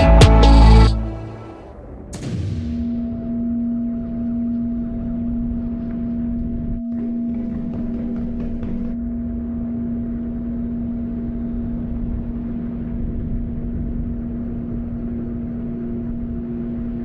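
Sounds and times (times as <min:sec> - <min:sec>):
low droning tone: 0:00.0 - 0:17.0
faint higher tone: 0:02.8 - 0:17.0.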